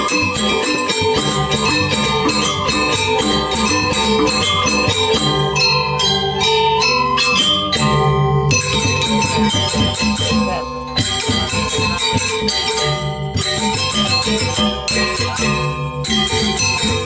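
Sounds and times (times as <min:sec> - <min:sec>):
gamelan metallic tones: 0:00.0 - 0:17.0.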